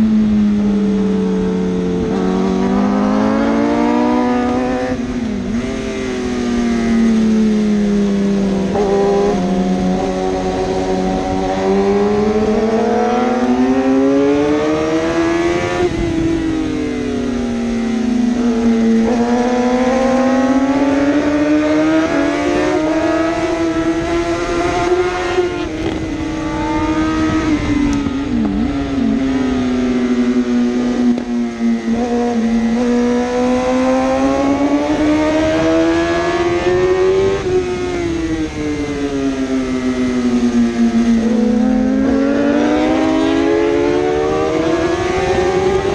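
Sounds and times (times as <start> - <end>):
motorcycle engine at racing speed: 0.0 - 45.9.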